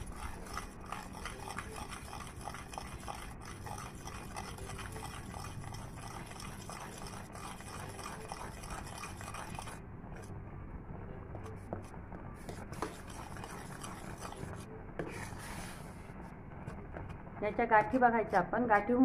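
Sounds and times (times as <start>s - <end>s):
spatula stirring in a pan: 0.0s - 10.3s, 11.5s - 18.9s.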